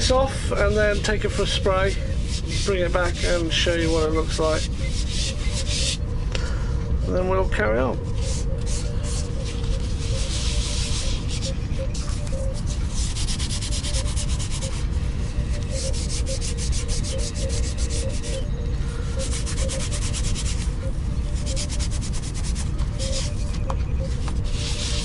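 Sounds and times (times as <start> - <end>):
hand sanding scratchy strokes: 0.0 - 6.1, 7.0 - 25.0.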